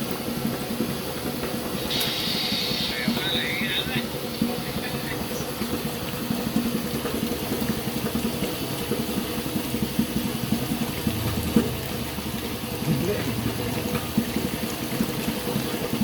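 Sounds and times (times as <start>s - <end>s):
slurry bubbling in a machine: 0.0s - 16.0s.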